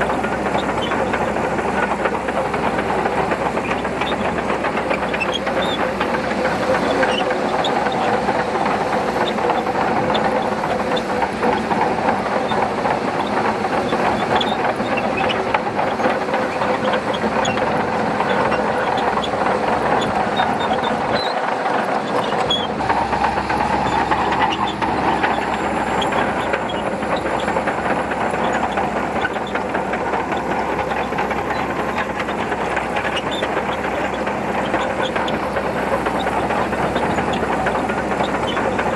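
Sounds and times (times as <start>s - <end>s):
diesel engine running: 0.0s - 38.9s
steel tracks clattering: 0.0s - 38.9s.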